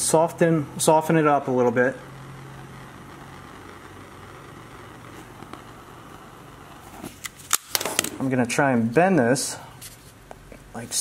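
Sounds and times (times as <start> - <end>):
gas torch hissing: 0.0 - 10.1.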